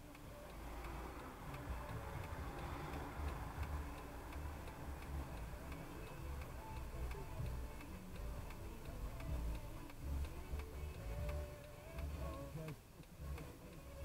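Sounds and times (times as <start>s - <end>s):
car engine idling: 0.0s - 14.0s
turn signal ticking: 0.0s - 14.0s.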